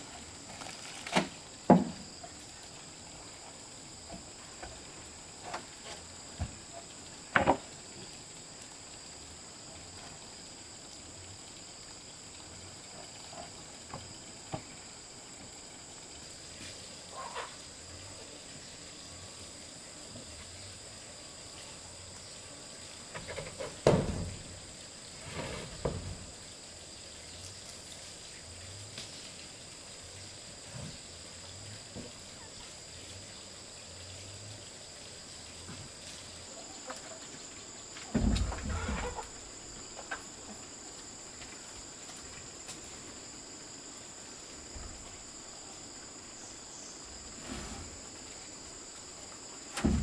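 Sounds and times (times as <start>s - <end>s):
insect chirring: 0.0s - 50.0s.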